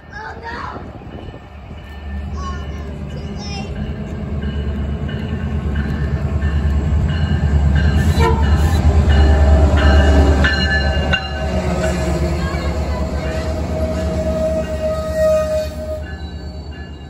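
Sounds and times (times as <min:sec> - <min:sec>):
locomotive engine rumble: 0:00.5 - 0:17.0.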